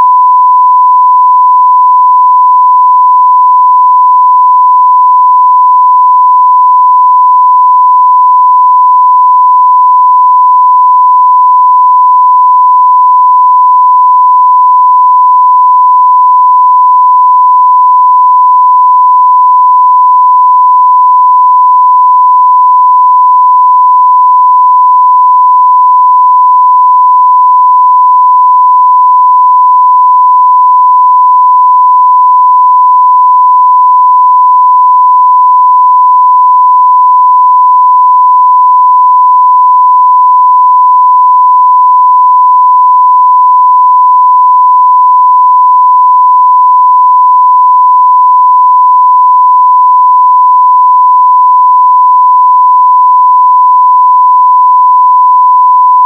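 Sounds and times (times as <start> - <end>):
sine-wave test tone: 0.0 - 56.0.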